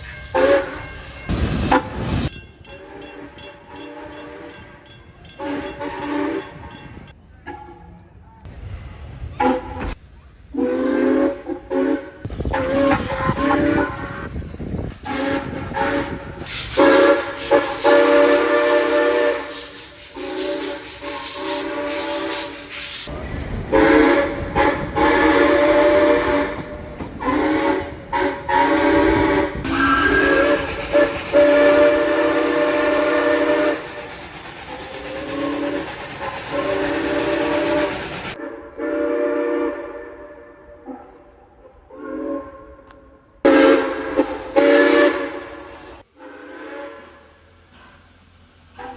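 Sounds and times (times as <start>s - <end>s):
locomotive whistle and horn blasts: 0.0s - 1.9s, 2.7s - 6.8s, 9.4s - 14.4s, 15.0s - 22.9s, 23.7s - 34.0s, 35.1s - 41.2s, 41.9s - 47.5s.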